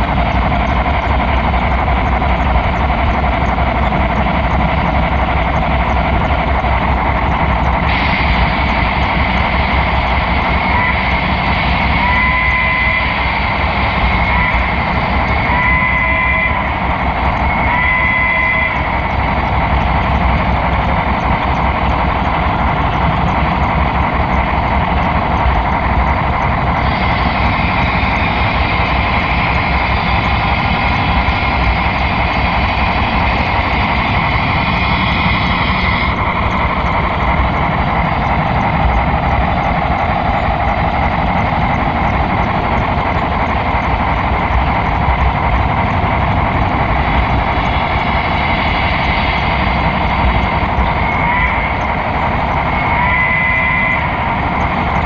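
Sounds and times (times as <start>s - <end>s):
model train wheels rattling on rails: 0.0s - 55.0s.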